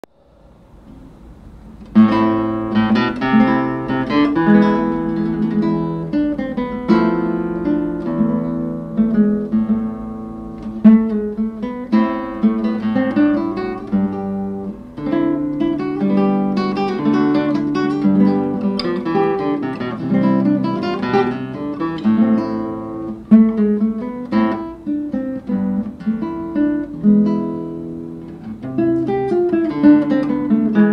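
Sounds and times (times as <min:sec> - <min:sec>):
acoustic guitar music: 0:00.0 - 0:30.9.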